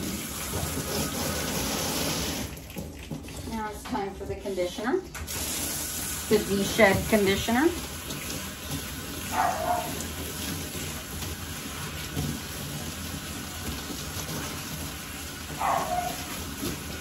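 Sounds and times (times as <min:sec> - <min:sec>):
water spraying on dog's coat: 0:00.0 - 0:17.0.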